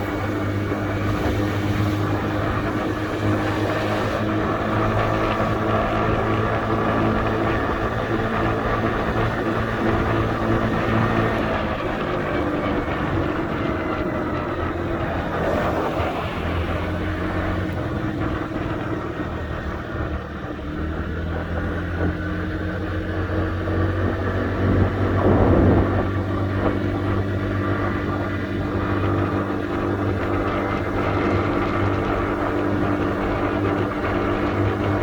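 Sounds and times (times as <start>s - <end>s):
scooter engine running: 0.0s - 35.0s.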